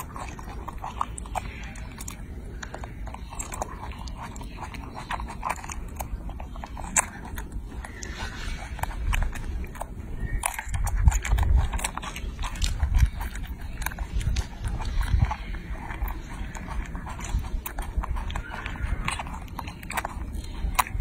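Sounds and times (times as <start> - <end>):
monkey chewing wetly: 0.0 - 21.0.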